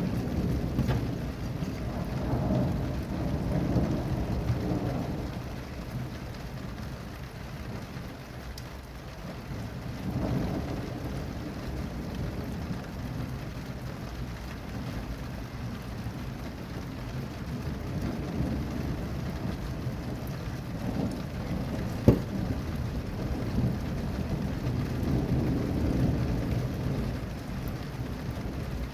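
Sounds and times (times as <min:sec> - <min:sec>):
thunder rumbling: 0:00.0 - 0:07.0, 0:09.6 - 0:13.9, 0:16.1 - 0:28.9
steady rain falling: 0:00.0 - 0:28.9.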